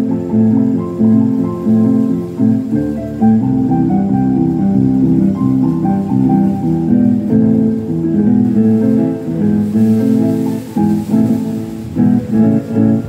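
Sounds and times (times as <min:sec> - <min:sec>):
electronic keyboard melody over chords: 0:00.0 - 0:13.0.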